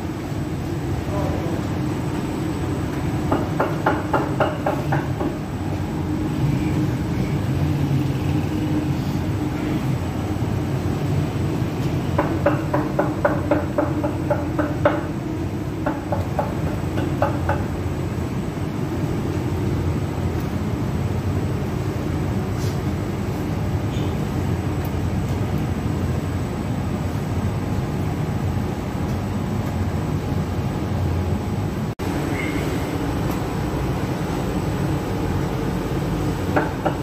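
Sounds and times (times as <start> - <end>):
bread oven machinery rumbling: 0.0 - 37.0.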